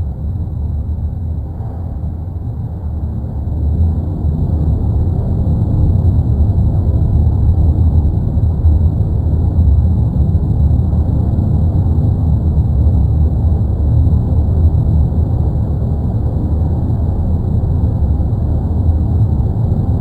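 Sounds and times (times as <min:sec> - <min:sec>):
deep volcano rumble: 0:00.0 - 0:20.0.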